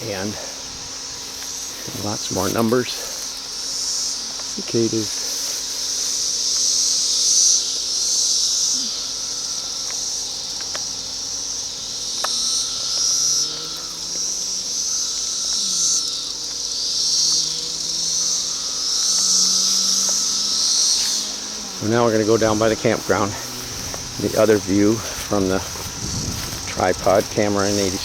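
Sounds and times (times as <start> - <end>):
cicadas buzzing: 0.0 - 28.0.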